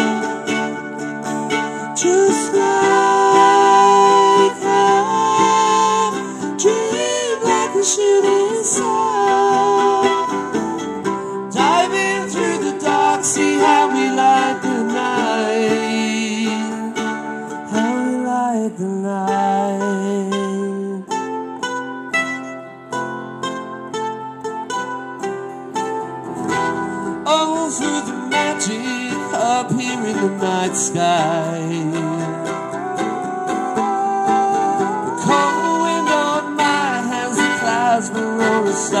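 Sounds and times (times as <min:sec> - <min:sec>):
person singing: 0:00.0 - 0:21.6, 0:26.5 - 0:39.0
picked mandolin: 0:00.0 - 0:39.0
strummed acoustic guitar: 0:00.0 - 0:39.0.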